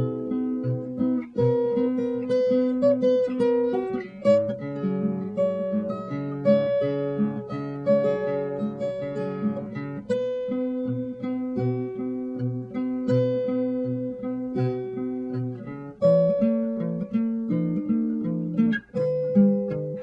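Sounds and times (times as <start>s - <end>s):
acoustic guitar plucked notes: 0.0s - 20.0s.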